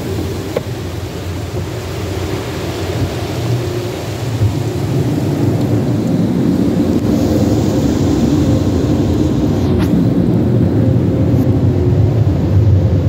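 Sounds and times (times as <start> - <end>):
car wash water spraying on car: 0.0 - 13.0.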